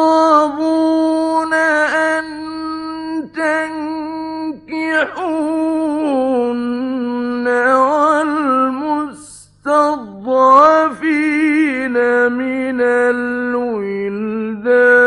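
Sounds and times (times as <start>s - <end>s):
man chanting recitation: 0.0s - 15.0s.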